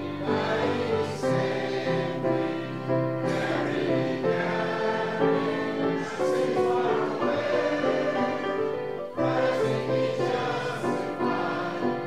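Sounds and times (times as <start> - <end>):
group singing a hymn in harmony: 0.0 - 12.0.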